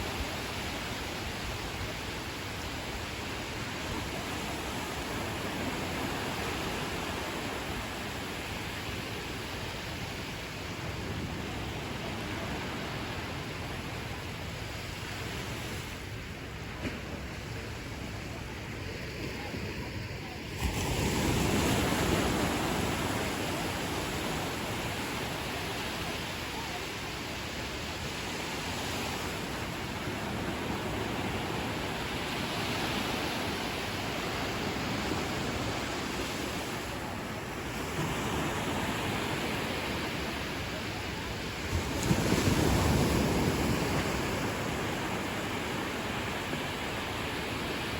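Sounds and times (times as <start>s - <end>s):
ocean surf washing on beach: 0.0s - 47.9s.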